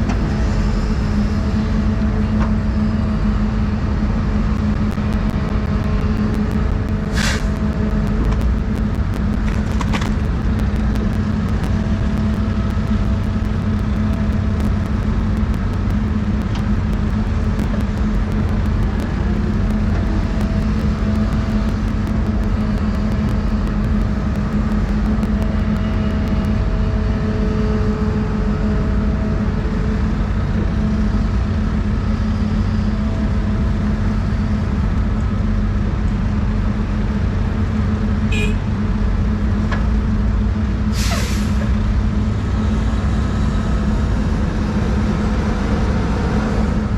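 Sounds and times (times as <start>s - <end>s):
excavator diesel engine humming: 0.0s - 46.9s.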